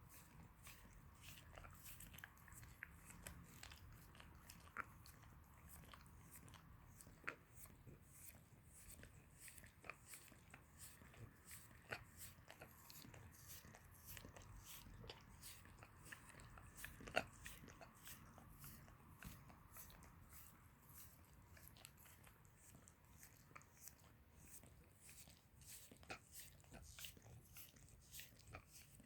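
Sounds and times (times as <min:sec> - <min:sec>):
dog licking: 0:00.0 - 0:29.0.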